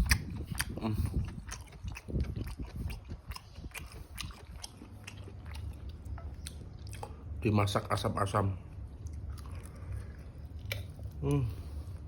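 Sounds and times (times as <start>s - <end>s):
person chewing food: 0.0s - 7.4s, 8.6s - 12.0s.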